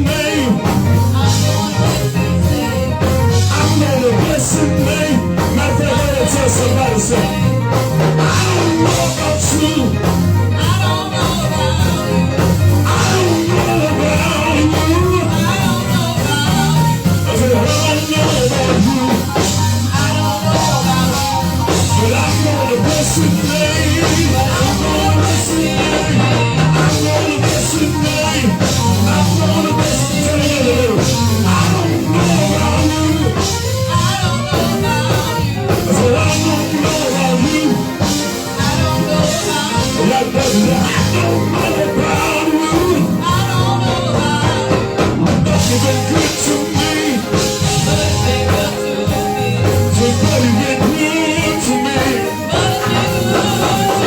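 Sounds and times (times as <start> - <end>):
church band playing: 0.0 - 54.0
person singing: 0.0 - 54.0.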